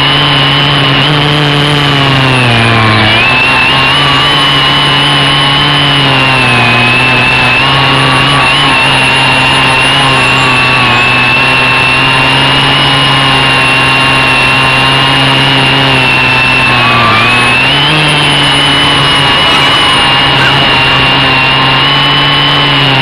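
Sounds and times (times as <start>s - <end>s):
quadcopter motors whining hum: 0.0s - 23.0s.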